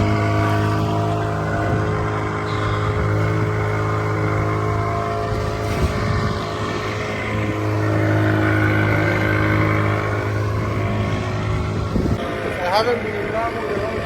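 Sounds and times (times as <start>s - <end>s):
outboard motor droning: 0.0s - 14.0s.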